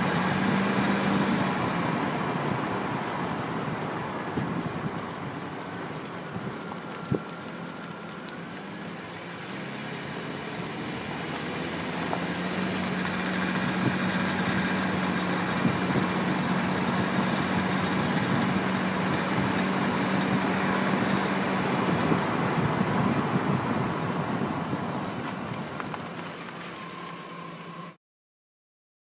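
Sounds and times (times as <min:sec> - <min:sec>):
road tyre and wind noise: 0:00.0 - 0:28.0.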